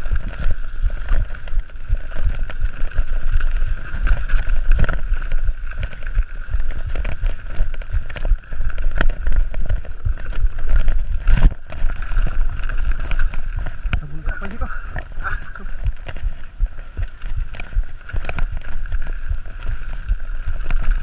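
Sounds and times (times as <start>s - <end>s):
bike rattling and knocking: 0.0s - 21.0s.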